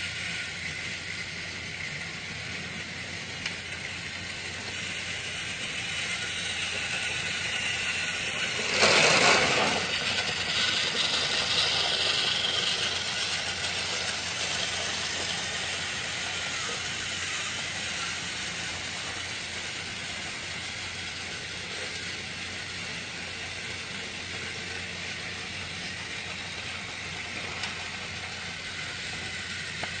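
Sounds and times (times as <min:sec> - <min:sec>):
small motor whirring: 0:00.0 - 0:30.0.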